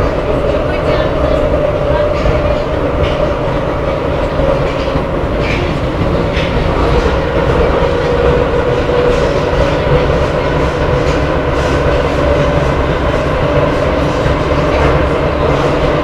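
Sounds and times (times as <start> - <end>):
metro train rumble and whine: 0.0 - 16.0.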